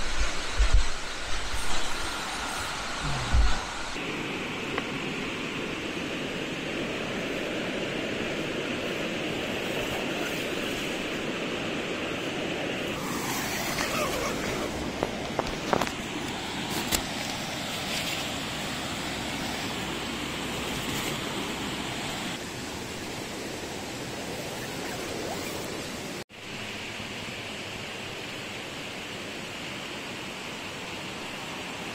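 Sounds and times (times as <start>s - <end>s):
rushing water: 0.0s - 31.9s.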